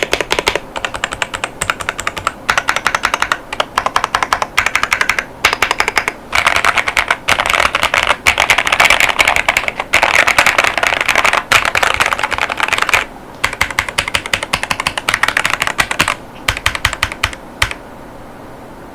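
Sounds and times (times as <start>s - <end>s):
fast typing on mechanical keyboard: 0.0s - 17.8s.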